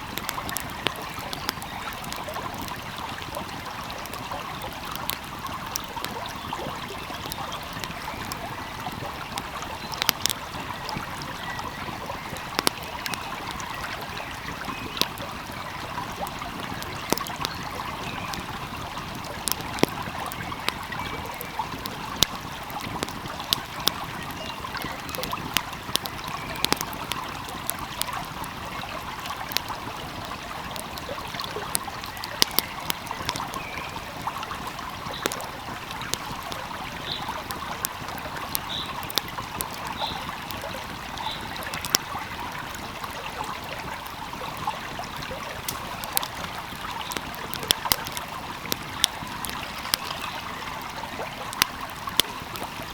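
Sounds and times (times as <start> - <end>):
flowing stream: 0.0 - 52.9
wood fire crackling and popping: 0.0 - 52.9.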